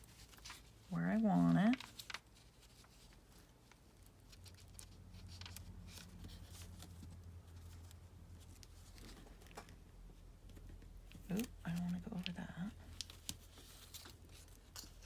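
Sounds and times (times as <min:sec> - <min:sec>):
tape and paper rustling: 0:00.0 - 0:09.8, 0:10.5 - 0:15.0
low steady hum: 0:00.0 - 0:15.0.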